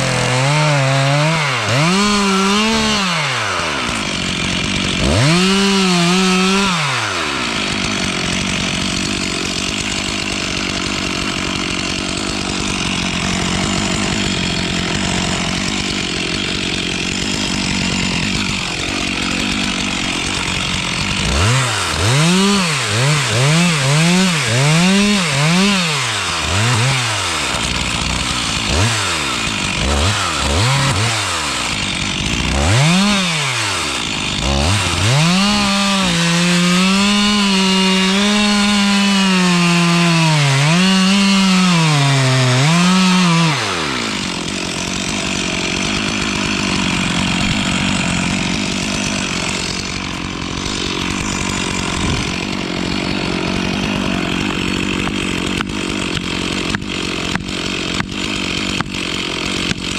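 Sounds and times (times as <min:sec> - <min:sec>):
chainsaw revving and cutting: 0:00.0 - 0:59.9.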